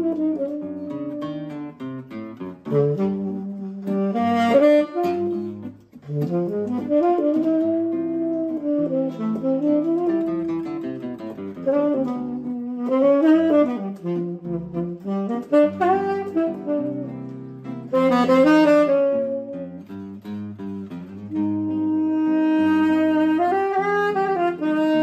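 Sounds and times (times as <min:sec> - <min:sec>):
tenor saxophone melody: 0:00.0 - 0:25.0.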